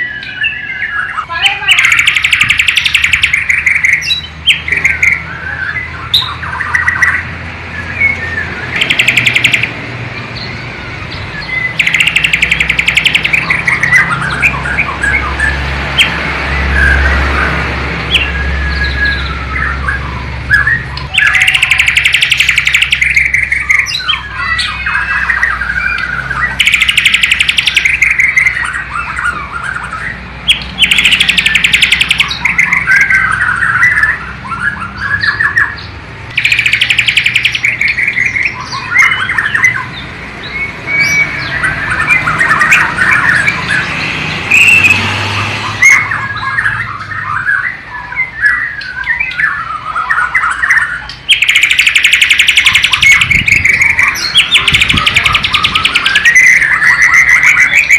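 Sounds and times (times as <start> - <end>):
bird singing whistled phrases: 0.0 - 7.2, 11.4 - 16.2, 18.1 - 43.8, 45.8 - 57.9
rapid repeated bird notes: 0.0 - 57.9.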